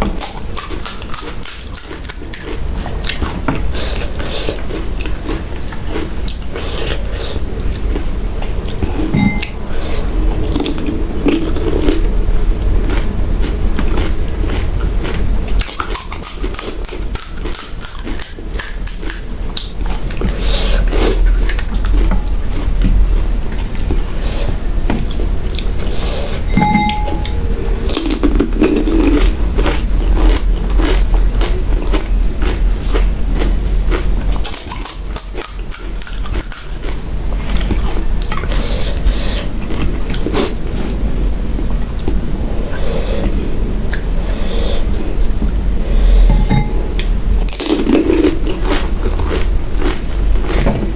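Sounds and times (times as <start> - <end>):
wet chewing: 0.0 - 41.0, 41.8 - 50.9.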